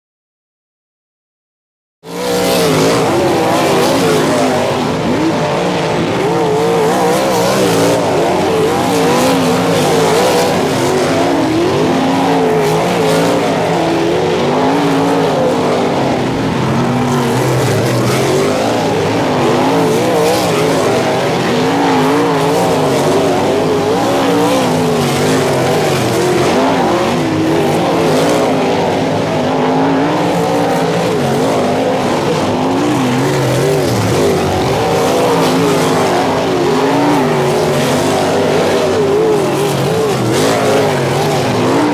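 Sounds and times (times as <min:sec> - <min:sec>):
race car engines at speed: 0:02.0 - 0:41.9.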